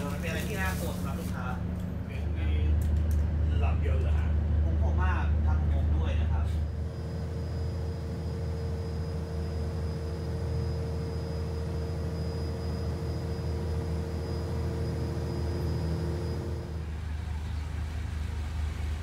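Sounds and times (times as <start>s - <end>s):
boat engine drone: 0.0s - 19.0s
thin steady whine: 3.4s - 19.0s.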